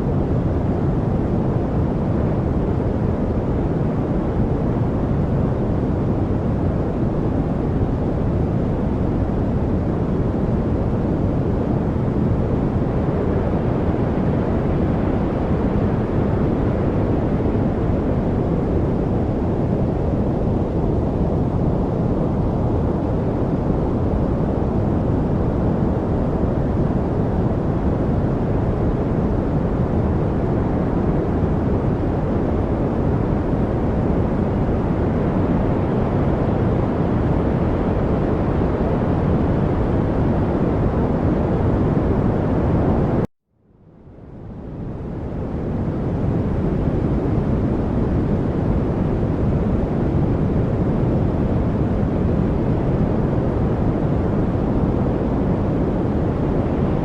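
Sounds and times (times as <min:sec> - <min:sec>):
deep rumbling white noise: 0:00.0 - 0:43.3, 0:44.0 - 0:57.0.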